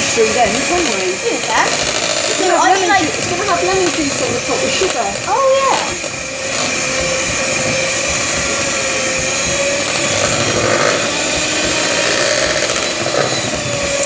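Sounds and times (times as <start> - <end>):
electric hand mixer whirring: 0.0 - 14.0.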